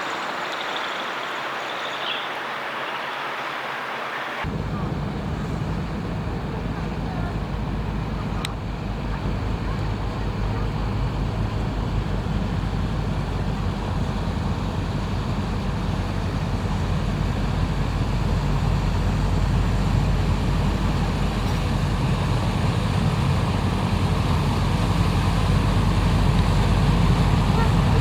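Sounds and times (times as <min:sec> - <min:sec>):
boat engine droning: 0:03.2 - 0:28.0.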